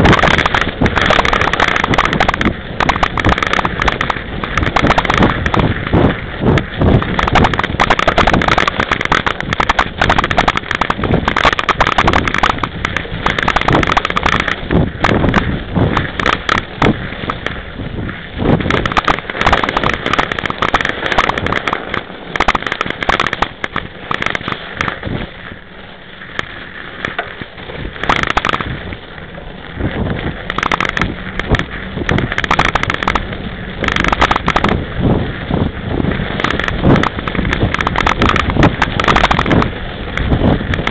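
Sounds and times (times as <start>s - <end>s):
bike clattering and knocking: 0.0s - 17.6s, 18.5s - 25.1s, 26.4s - 28.8s, 29.9s - 34.8s, 36.3s - 40.9s
wind on microphone: 0.0s - 40.9s.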